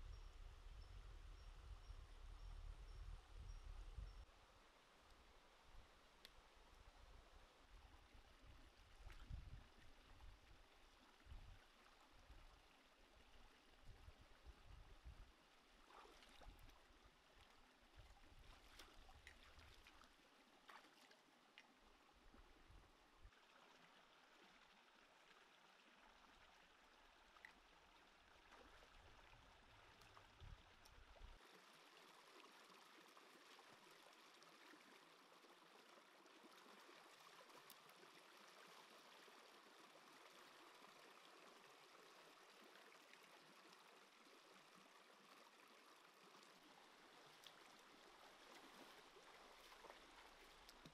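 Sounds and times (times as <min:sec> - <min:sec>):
stream running over rocks: 0:04.8 - 0:50.9.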